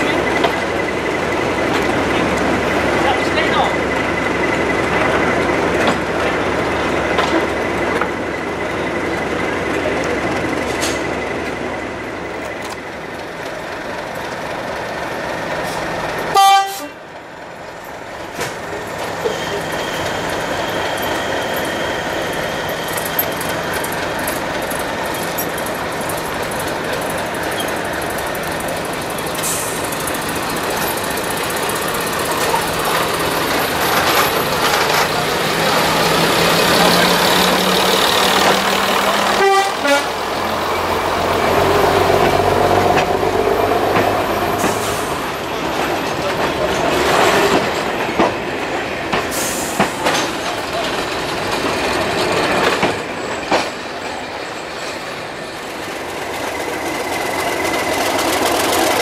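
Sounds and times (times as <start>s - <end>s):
another train moving off: 0.0s - 59.0s
diesel train engines: 0.0s - 59.0s
train wheels on rails: 0.0s - 59.0s.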